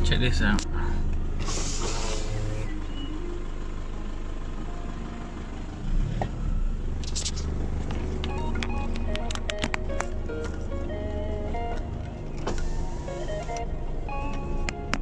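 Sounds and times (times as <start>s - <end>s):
pickup engine running: 0.0s - 15.0s.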